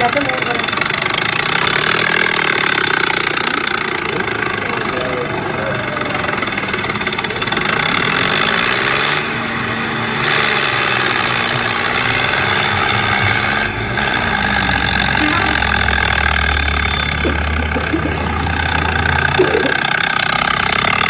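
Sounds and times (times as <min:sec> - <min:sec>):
deep steady drone: 0:00.0 - 0:21.0
tractor engine revving: 0:00.0 - 0:21.0.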